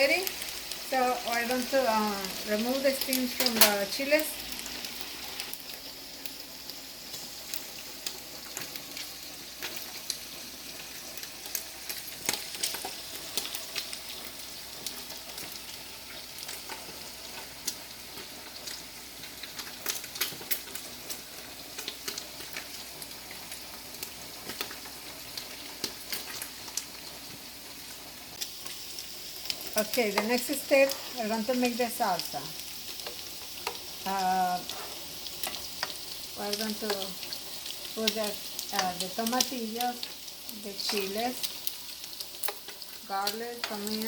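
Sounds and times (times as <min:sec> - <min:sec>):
pork frying in oil: 0:00.0 - 0:44.0.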